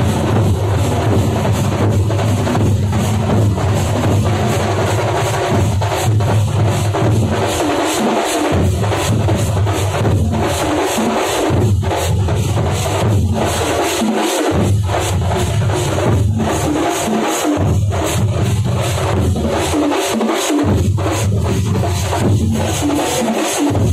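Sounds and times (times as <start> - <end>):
large drums beating: 0.0 - 23.9.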